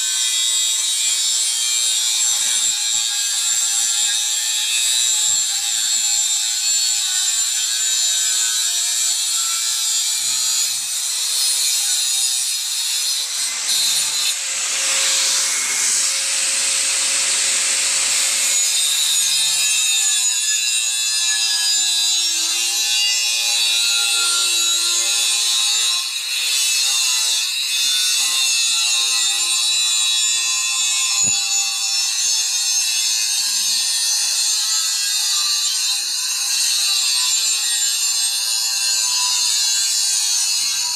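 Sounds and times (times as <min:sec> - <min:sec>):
angle grinder cutting steel: 0:00.0 - 0:40.9.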